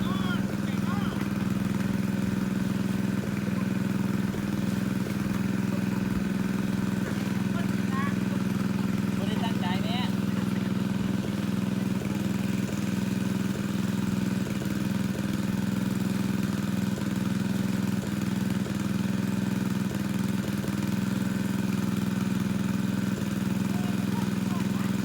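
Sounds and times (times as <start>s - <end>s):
water pump engine humming: 0.0s - 25.0s.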